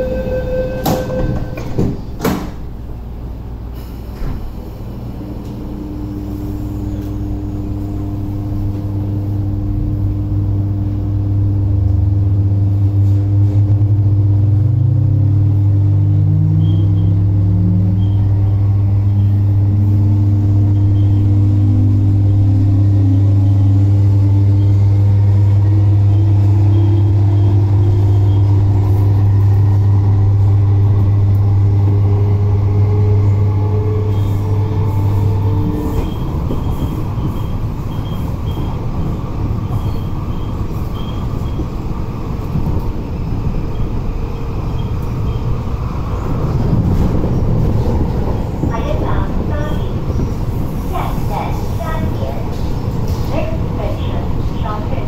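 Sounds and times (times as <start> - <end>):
electric train accelerating: 0.0 - 55.0.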